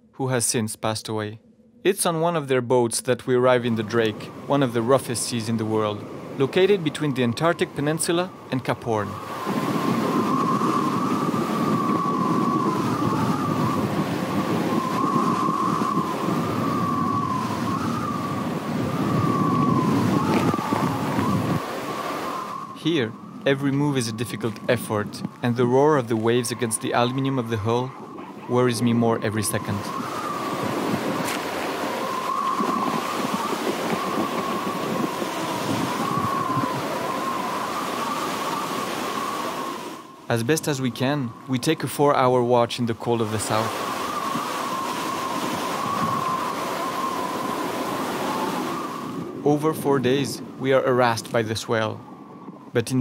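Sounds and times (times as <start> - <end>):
heavy seas: 0.0 - 53.0
rushing wind: 2.7 - 53.0
wind whistling in rigging: 2.8 - 53.0
waves breaking against hull: 3.3 - 53.0.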